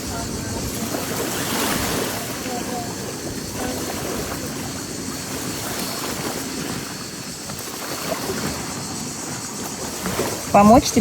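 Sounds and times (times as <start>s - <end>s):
sea waves washing on shore: 0.0s - 11.0s
wind on microphone: 0.0s - 11.0s.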